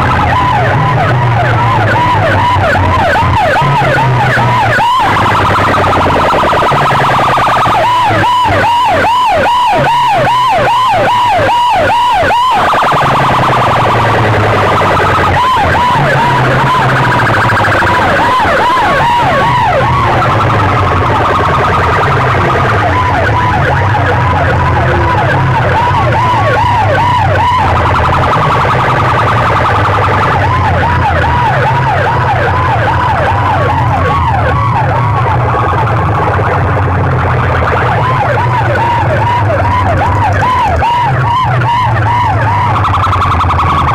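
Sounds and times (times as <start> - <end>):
electronic siren whoops: 0.0 - 43.9.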